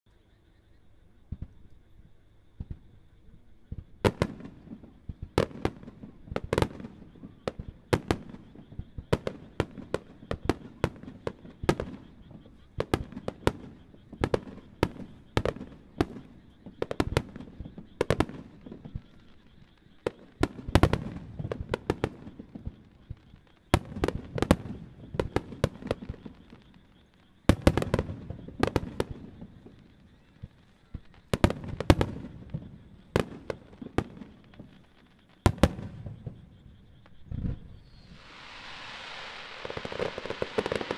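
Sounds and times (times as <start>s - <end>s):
fireworks bursting: 2.6s - 40.9s.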